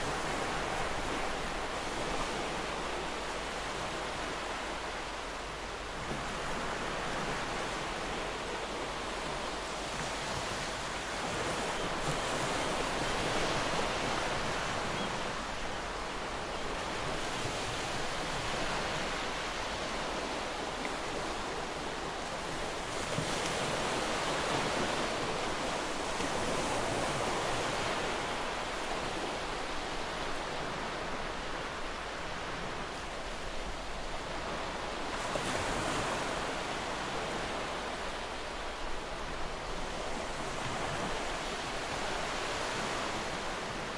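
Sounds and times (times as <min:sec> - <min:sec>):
sea waves washing in: 0:00.0 - 0:43.9.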